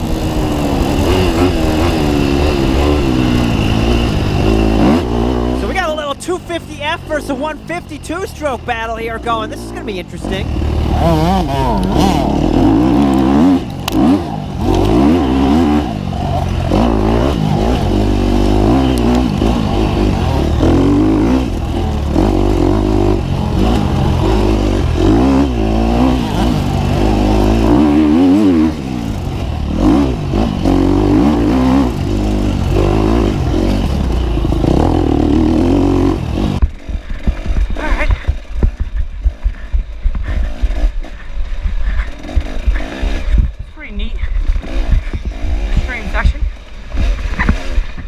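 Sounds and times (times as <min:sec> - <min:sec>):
bike rattling and scraping: 0:00.0 - 0:06.2, 0:10.4 - 0:48.0
dirt bike engine revving: 0:00.0 - 0:48.0.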